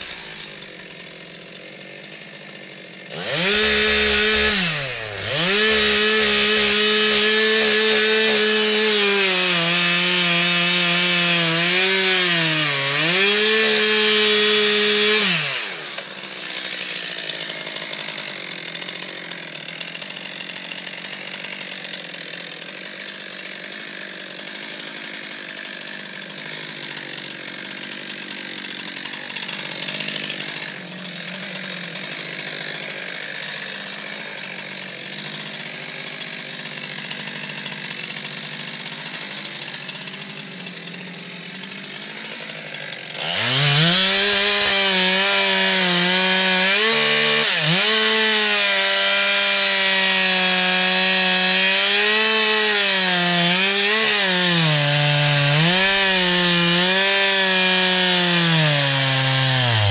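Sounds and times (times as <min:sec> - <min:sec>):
chainsaw cutting a log: 0:00.0 - 0:59.9
chainsaw running roughly: 0:00.0 - 0:59.9.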